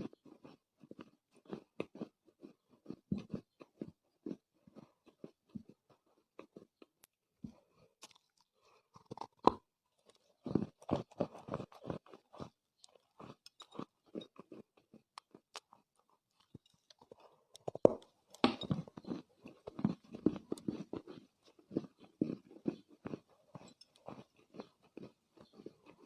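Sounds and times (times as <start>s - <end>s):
chewing dried clay crunches: 0.0s - 26.0s.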